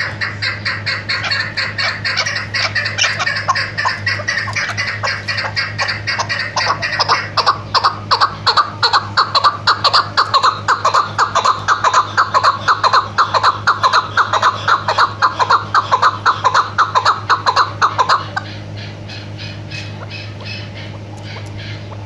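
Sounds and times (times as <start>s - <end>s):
partridge calling: 0.0s - 22.0s.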